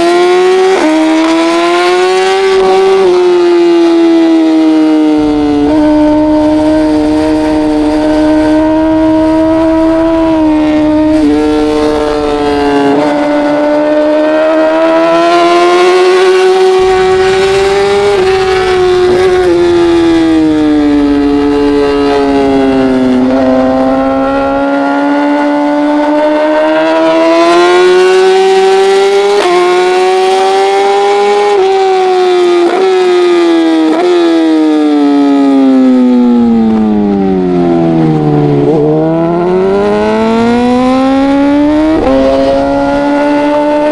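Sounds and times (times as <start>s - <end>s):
racing motorcycle engine revving: 0.0s - 43.9s
low wind rumble: 1.9s - 31.0s, 37.2s - 43.9s.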